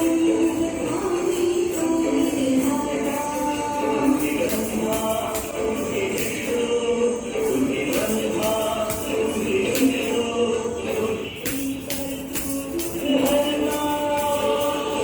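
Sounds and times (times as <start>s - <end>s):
group singing in unison: 0.0s - 15.0s
jingling tambourine: 0.0s - 15.0s.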